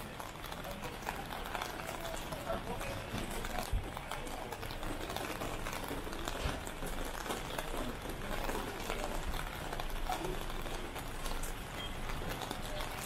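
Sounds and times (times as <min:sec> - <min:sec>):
rain on city street: 0:00.0 - 0:13.0.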